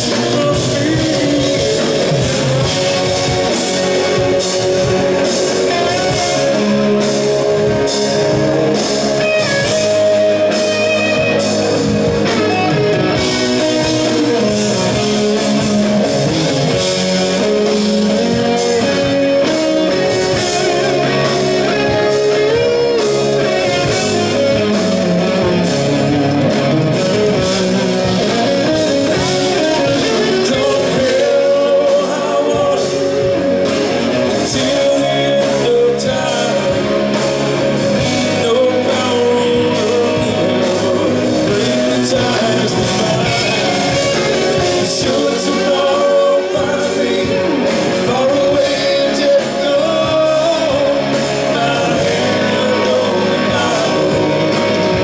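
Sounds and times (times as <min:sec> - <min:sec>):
drums: 0:00.0 - 0:55.0
electric guitar: 0:00.0 - 0:55.0
person singing: 0:00.0 - 0:55.0.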